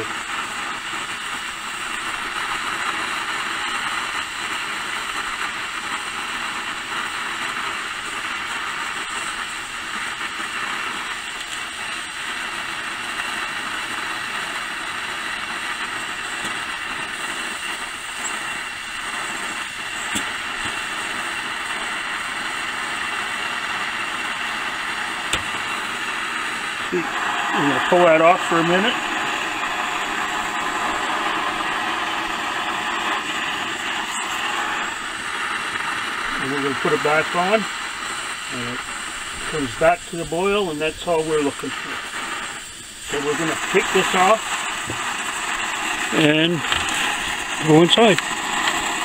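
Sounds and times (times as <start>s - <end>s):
coffee boiling: 0.0s - 49.0s
gas burner roaring: 0.0s - 49.0s.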